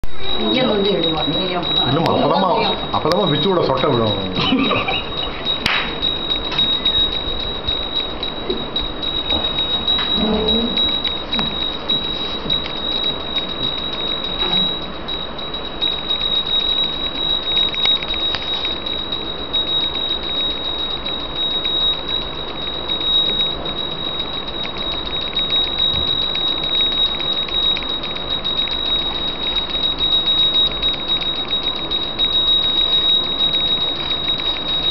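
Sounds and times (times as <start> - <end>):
hand bell ringing rapidly: 0.2 - 34.9.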